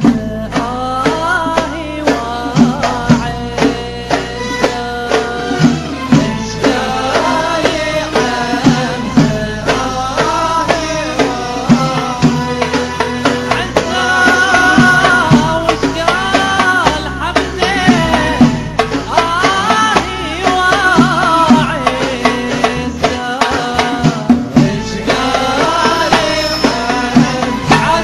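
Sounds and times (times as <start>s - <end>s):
hand drum beat: 0.0s - 28.0s
person singing: 0.0s - 28.0s.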